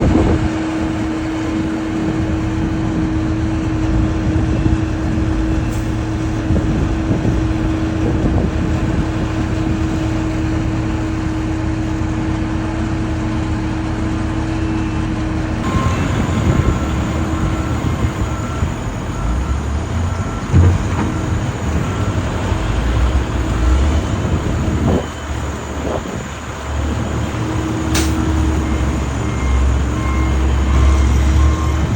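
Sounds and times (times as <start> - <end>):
vehicle rumble with hum: 0.0 - 31.9.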